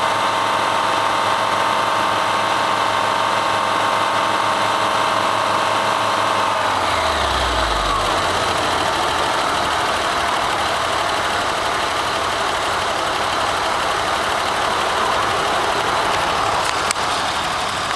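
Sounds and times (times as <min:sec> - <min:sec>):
large engine idling: 0:00.0 - 0:17.9.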